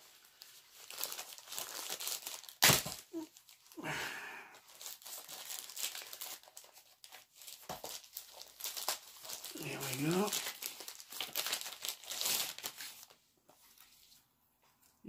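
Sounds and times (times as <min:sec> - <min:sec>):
packaging crinkling and tearing: 0:00.0 - 0:03.8, 0:04.6 - 0:14.0.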